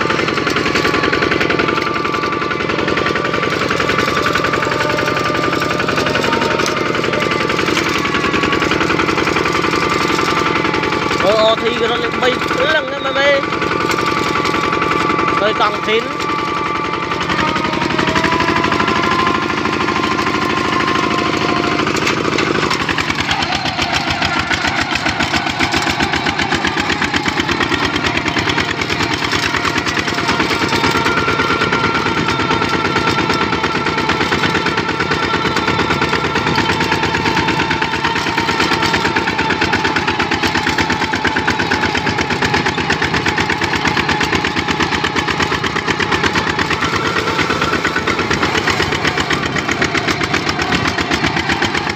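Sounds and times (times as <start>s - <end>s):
diesel engine chugging: 0.0s - 51.9s.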